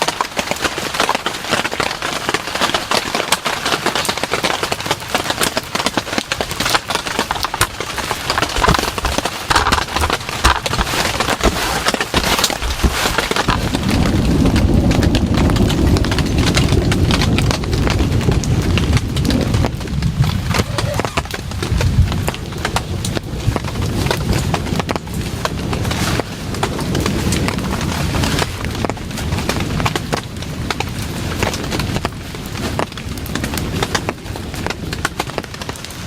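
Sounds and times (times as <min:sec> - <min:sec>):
heavy rain on a tent: 0:00.0 - 0:36.0
thunder rumbling: 0:00.0 - 0:36.0.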